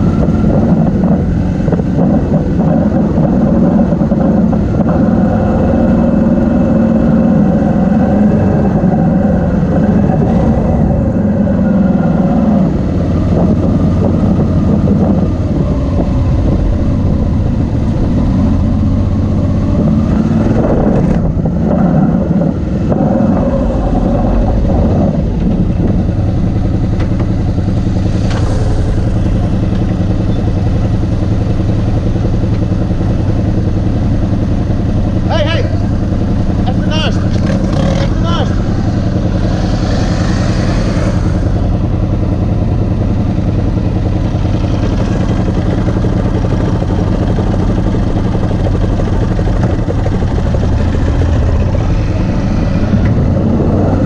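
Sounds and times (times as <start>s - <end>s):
motorcycle engines running: 0.0s - 54.0s
motorcycle riding up close: 0.0s - 54.0s.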